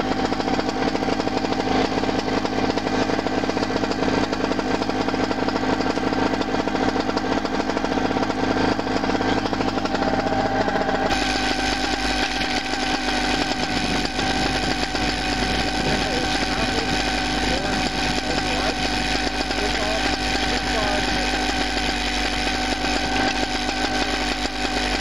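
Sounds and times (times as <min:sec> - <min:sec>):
paramotor engine running: 0:00.0 - 0:25.0.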